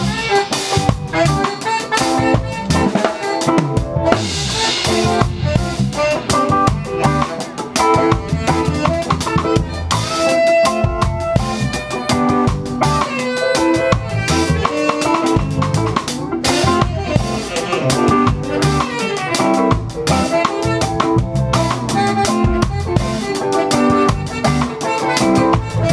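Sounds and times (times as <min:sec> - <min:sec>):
drum kit beat: 0:00.0 - 0:25.9
electric guitars: 0:00.0 - 0:25.9
live band playing: 0:00.0 - 0:25.9.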